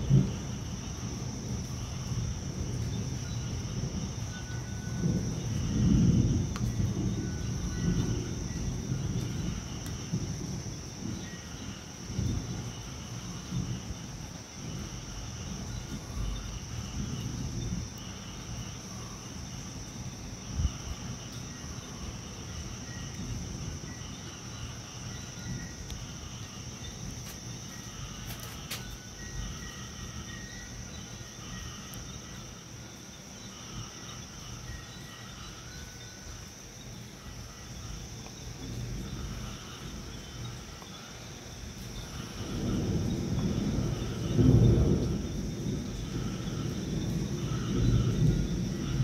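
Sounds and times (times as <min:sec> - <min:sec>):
wind rumbling on microphone: 0:00.0 - 0:31.3, 0:36.4 - 0:49.0
night insects chirring: 0:00.0 - 0:49.0.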